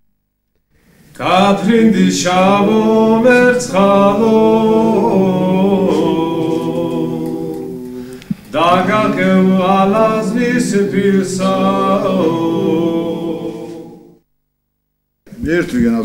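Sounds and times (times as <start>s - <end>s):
unaccompanied voices singing: 1.1s - 14.2s.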